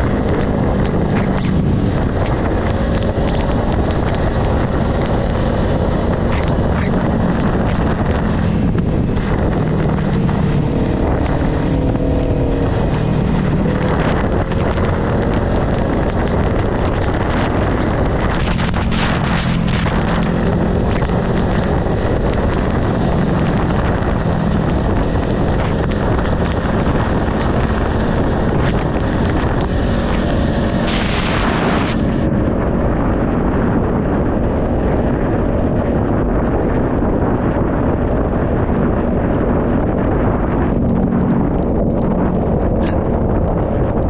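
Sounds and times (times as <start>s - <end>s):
heavy wind rush on microphone: 0.0s - 44.0s
motorcycle engine running: 0.0s - 44.0s.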